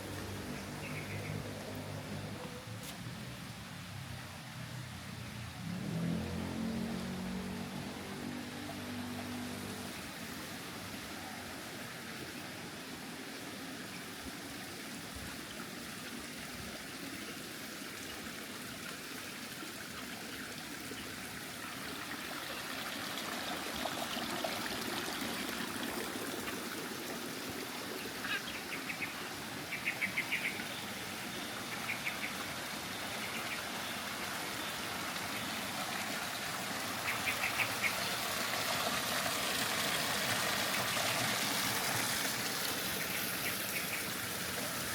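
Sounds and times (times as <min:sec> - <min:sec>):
running water: 0:00.0 - 0:44.9.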